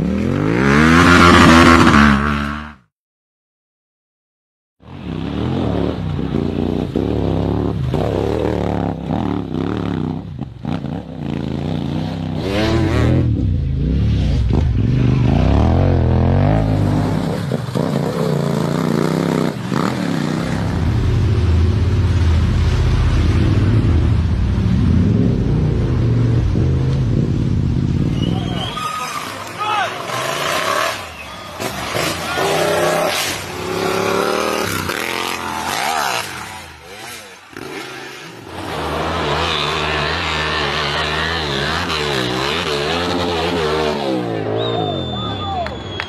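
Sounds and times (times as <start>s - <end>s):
motorcycle engines revving: 0.0s - 2.8s, 4.8s - 46.0s.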